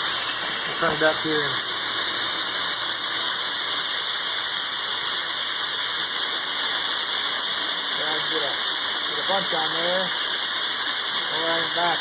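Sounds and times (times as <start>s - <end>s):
air mister hissing: 0.0s - 12.0s.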